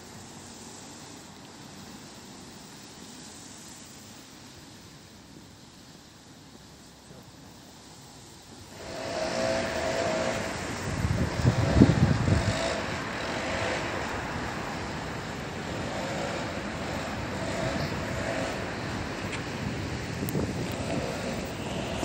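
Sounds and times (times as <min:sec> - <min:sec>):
traffic on wet road: 0:00.0 - 0:22.0.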